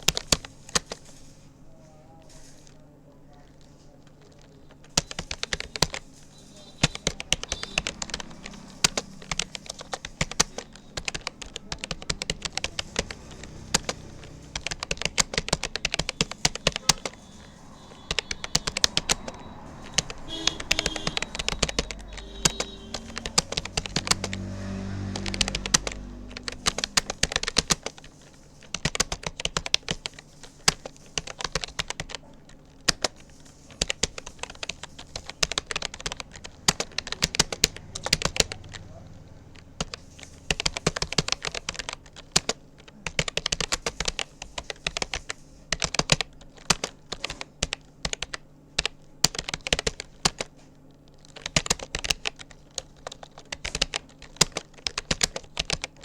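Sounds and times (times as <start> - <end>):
keyboard typing clicks: 0.0 - 1.2, 3.5 - 56.0.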